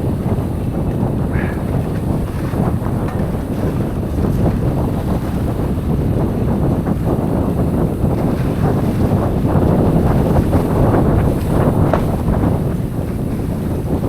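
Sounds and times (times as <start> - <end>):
bike rumbling and rattling on trail: 0.0 - 14.0
wind buffeting microphone: 0.0 - 14.0.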